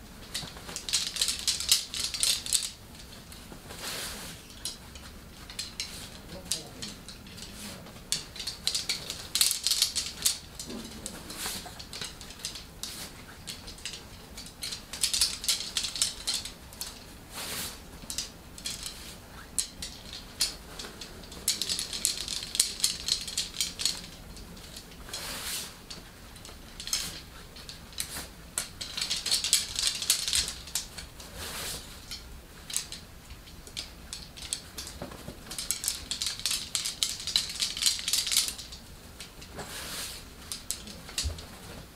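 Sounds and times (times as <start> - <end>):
flags on sticks clicking and rattling: 0.0 - 41.9.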